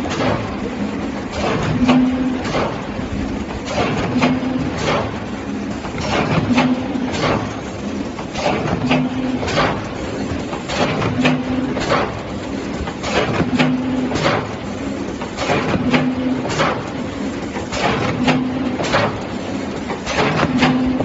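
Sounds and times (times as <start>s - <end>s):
sharp machine clacks: 0.0s - 21.0s.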